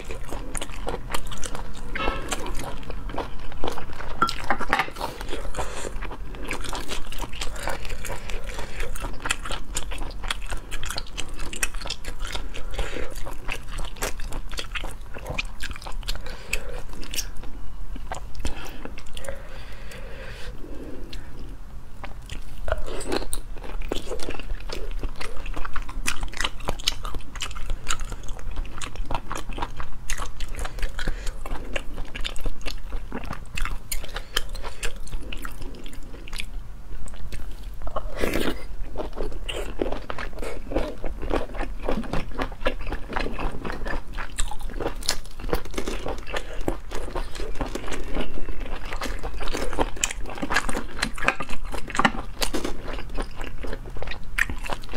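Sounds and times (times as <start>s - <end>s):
close chewing with wet mouth clicks: 0.0s - 19.3s, 22.0s - 54.9s.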